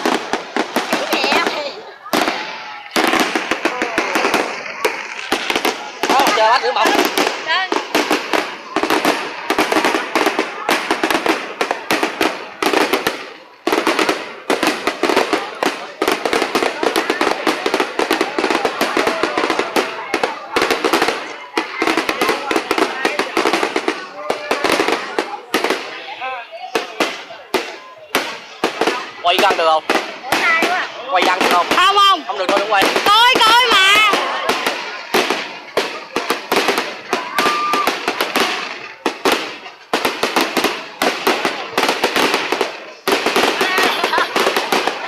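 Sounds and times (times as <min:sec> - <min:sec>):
fireworks crackling: 0:00.0 - 0:45.0.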